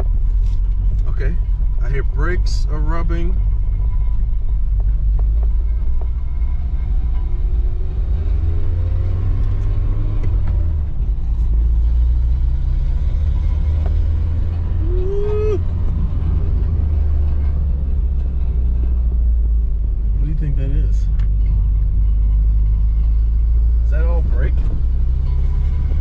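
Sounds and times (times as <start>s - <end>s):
brakes rubbing: 0.0s - 26.0s
car engine and road rumble: 0.0s - 26.0s.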